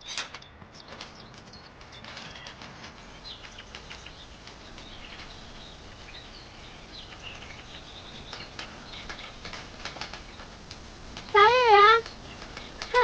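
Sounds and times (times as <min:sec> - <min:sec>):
light ticks and rustles: 0:00.0 - 0:13.0
small birds chirping: 0:00.0 - 0:13.0.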